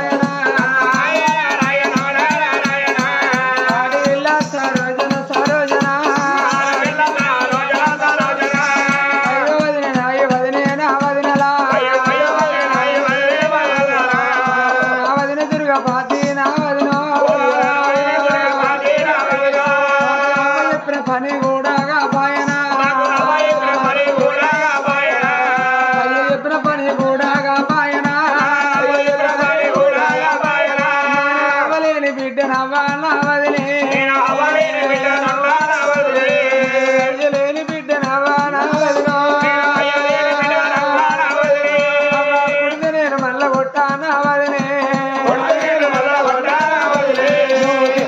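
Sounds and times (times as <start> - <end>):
barrel drum beating: 0.0 - 48.0.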